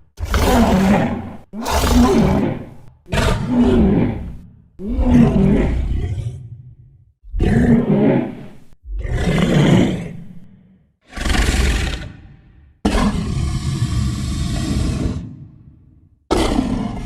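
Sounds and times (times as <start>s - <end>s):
monster roars: 0.2s - 6.5s, 7.3s - 17.0s.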